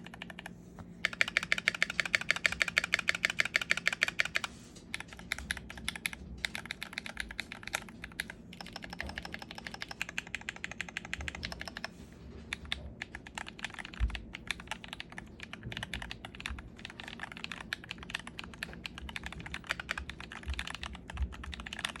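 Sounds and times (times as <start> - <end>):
mechanical keyboard typing: 0.0 - 22.0.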